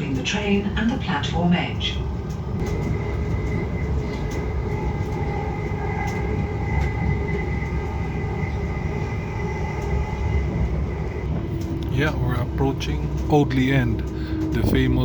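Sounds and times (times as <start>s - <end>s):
train high whine: 0.0s - 15.0s
train low rumble: 0.0s - 15.0s.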